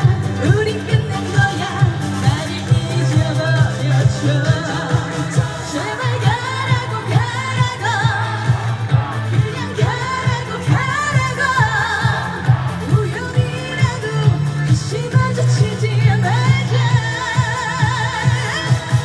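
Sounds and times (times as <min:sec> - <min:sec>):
musical accompaniment with beat: 0:00.0 - 0:19.0
woman singing with vibrato: 0:00.0 - 0:19.0.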